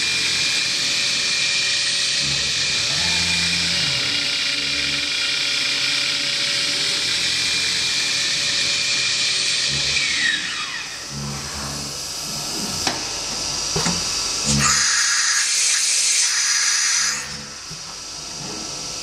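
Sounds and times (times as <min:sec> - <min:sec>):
machine spindle whining: 0:00.0 - 0:19.0.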